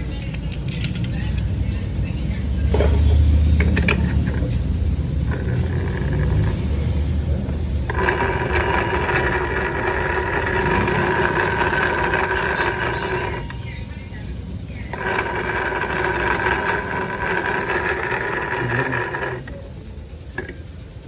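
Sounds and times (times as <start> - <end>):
high-pitched transmission whine: 0.0 - 21.0
scooter engine rumbling: 0.0 - 21.0.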